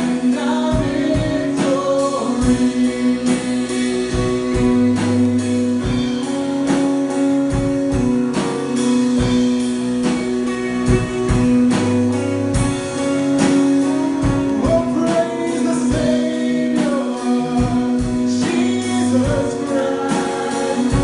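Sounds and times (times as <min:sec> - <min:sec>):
strummed guitar: 0:00.0 - 0:21.0
worship band instrumental: 0:00.0 - 0:21.0.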